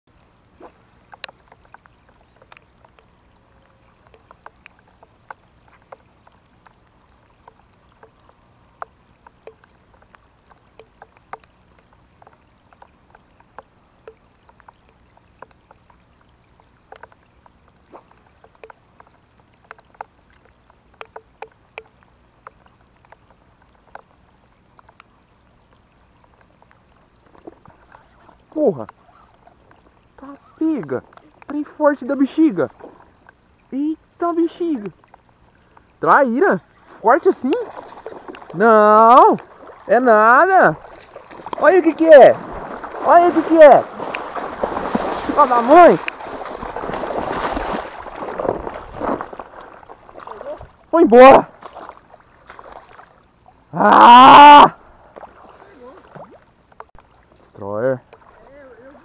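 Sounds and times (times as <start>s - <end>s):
raindrops ticking: 0.1s - 53.4s, 56.1s - 59.0s.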